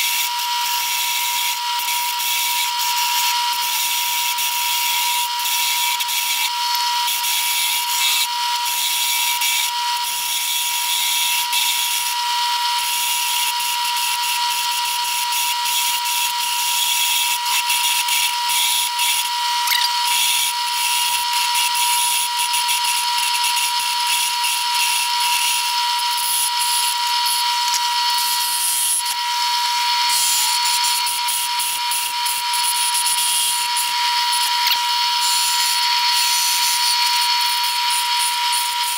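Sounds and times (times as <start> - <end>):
chisel cutting spinning wood: 0.0 - 38.9
lathe motor whine: 0.0 - 38.9.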